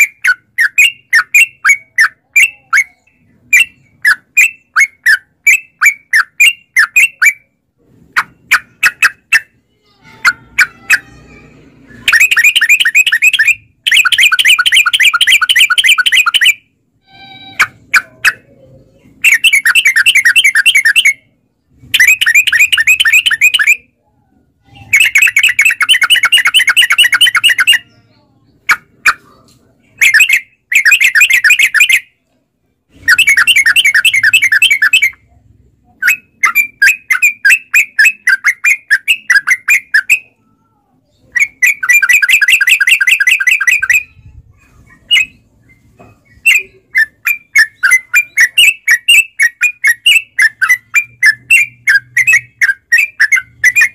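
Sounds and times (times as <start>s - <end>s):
bird singing rolling phrases: 0.0s - 53.9s.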